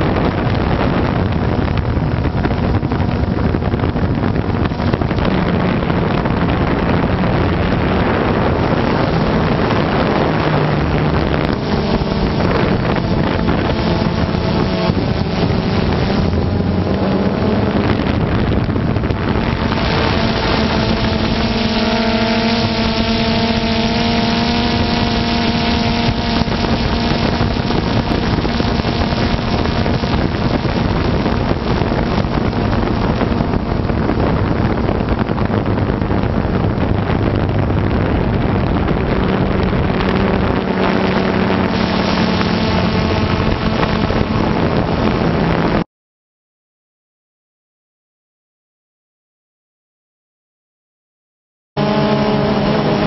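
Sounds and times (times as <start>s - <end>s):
drone propellers buzzing: 0.0s - 45.8s, 51.8s - 53.0s
wind noise on microphone: 0.0s - 45.9s, 51.8s - 53.0s.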